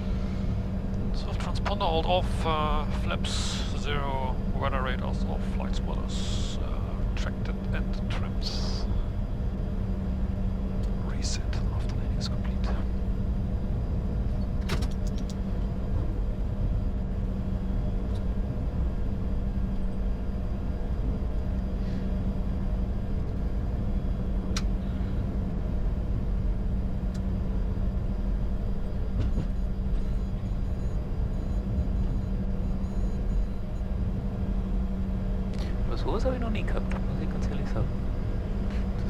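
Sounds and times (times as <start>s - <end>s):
jet engines idling hum: 0.0s - 39.0s.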